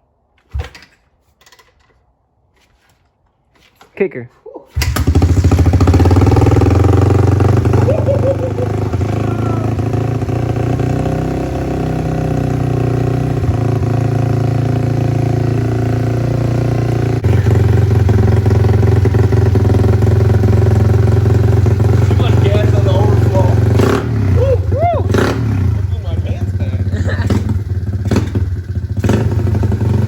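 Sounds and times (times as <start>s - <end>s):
motorbike engine running: 4.8s - 30.0s.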